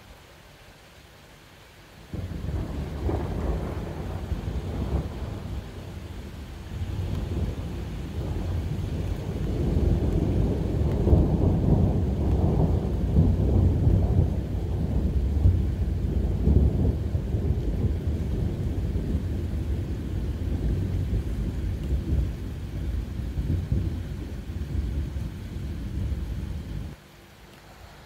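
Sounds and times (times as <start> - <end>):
heavy rain: 0.0 - 28.0
thunder rumbling: 2.1 - 27.0.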